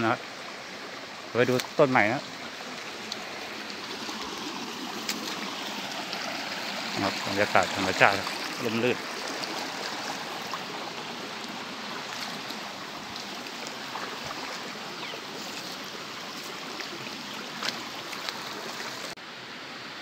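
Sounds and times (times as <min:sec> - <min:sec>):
stream flowing over stones: 0:00.0 - 0:20.0.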